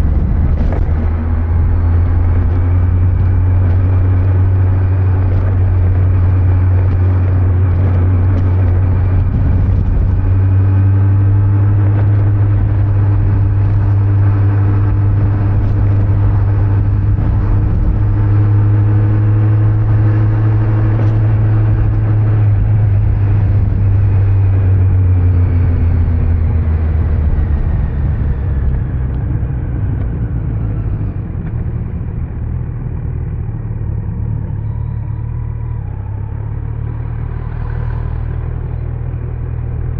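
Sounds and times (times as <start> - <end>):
motorcycle engine cruising: 0.0 - 39.9
wind and tyre noise: 0.0 - 39.9.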